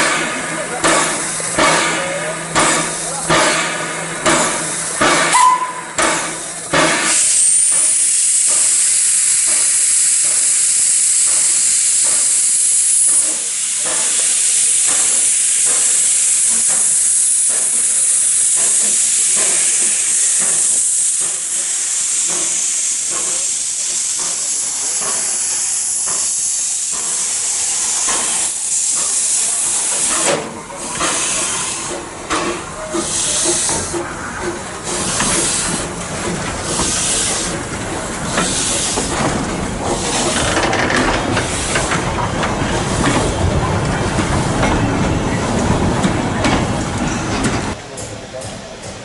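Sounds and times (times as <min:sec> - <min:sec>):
rolling train rumble: 0:00.0 - 0:49.0
steam locomotive hissing: 0:00.0 - 0:49.0.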